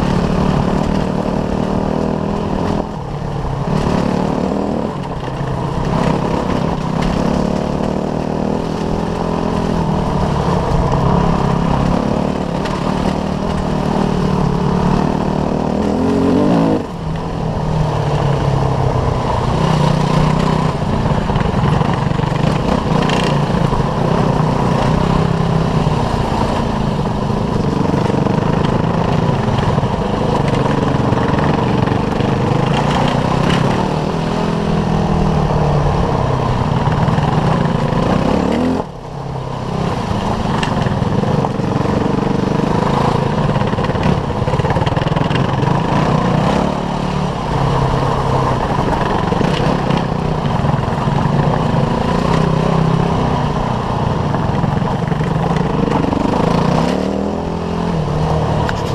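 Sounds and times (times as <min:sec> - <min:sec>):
dirt bike engine revving: 0:00.0 - 0:39.0, 0:39.7 - 0:58.9.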